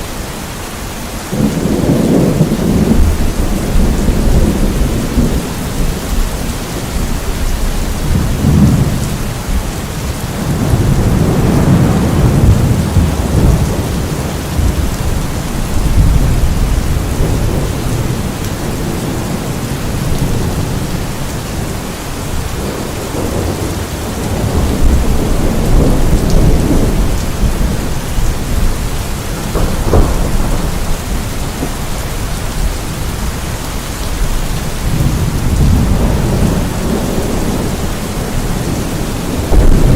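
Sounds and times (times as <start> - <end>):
steady rain falling: 0.0 - 39.9
rolling thunder rumbling: 1.3 - 39.9.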